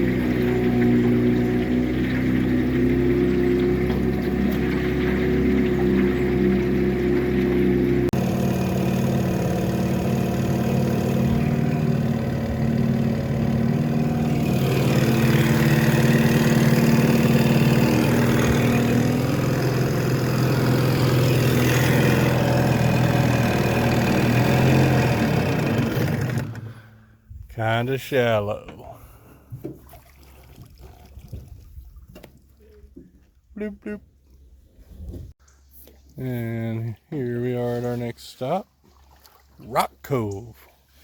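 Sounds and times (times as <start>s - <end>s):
outboard motor running: 0.0s - 35.3s.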